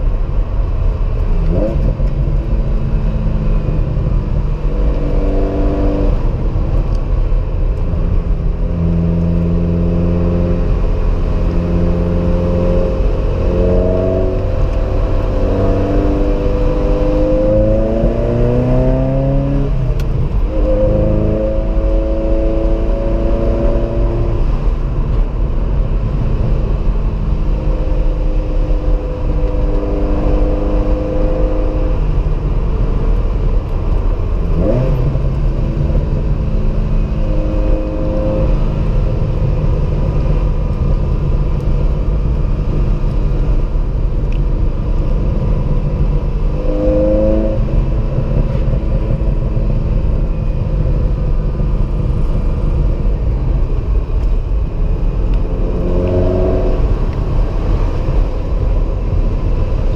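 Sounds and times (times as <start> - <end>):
car engine accelerating: 0.0 - 59.9
low road rumble: 0.0 - 59.9.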